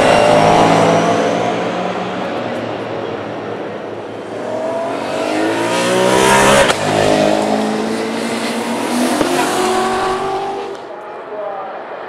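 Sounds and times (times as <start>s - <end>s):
race car engines accelerating: 0.0s - 12.0s.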